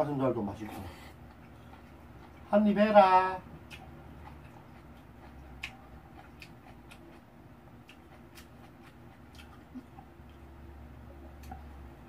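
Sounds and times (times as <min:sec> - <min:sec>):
low steady hum: 0:00.0 - 0:12.0
eating sounds: 0:00.5 - 0:12.0.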